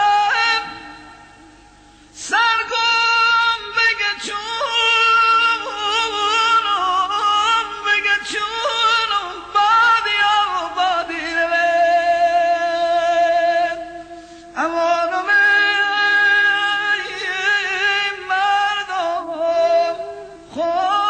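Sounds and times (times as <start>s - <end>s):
singing voice with vibrato: 0.0s - 21.0s.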